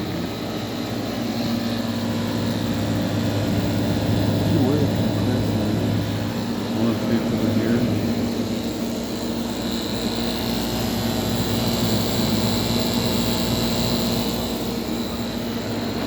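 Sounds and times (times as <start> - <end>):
air conditioner hum and air rush: 0.0 - 16.0
faint high whine: 0.0 - 16.0.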